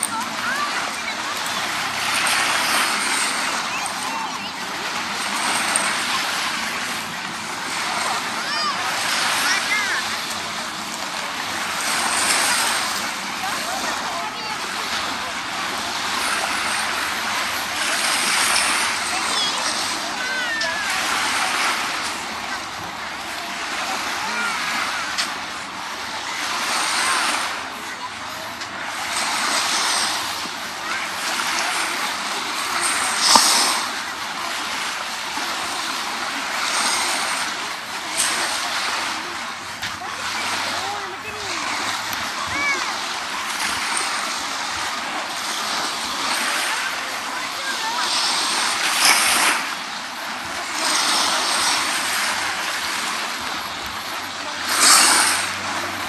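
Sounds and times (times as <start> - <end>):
small waves washing on beach: 0.0 - 56.0.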